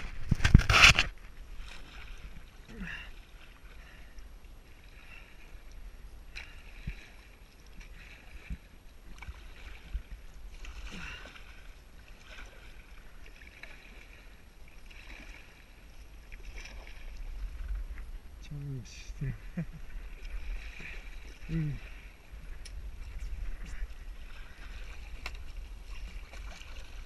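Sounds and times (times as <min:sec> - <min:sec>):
paddle splashing in water: 0:00.0 - 0:18.2, 0:19.8 - 0:27.0.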